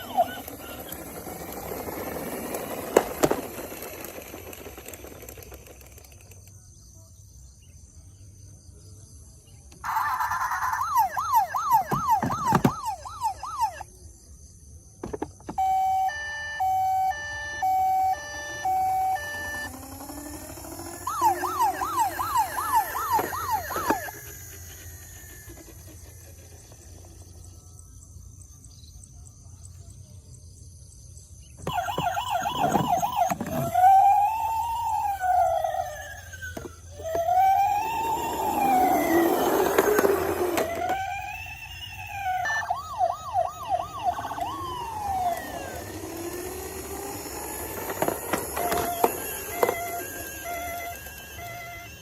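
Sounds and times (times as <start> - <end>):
toy siren wailing: 0.0 - 6.2, 9.7 - 14.0, 15.5 - 27.1, 31.6 - 52.0
toy siren yelping: 0.0 - 6.3, 9.7 - 14.0, 15.5 - 27.3, 31.6 - 52.0.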